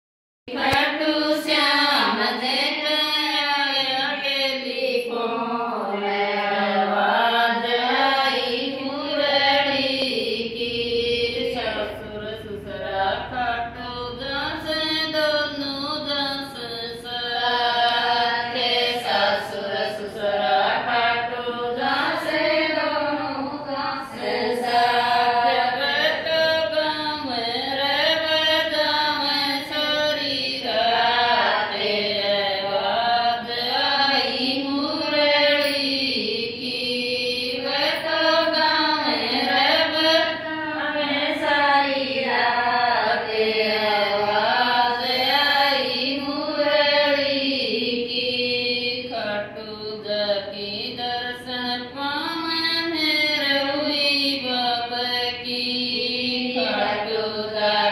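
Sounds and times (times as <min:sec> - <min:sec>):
women singing devotional song: 0:00.5 - 0:57.9.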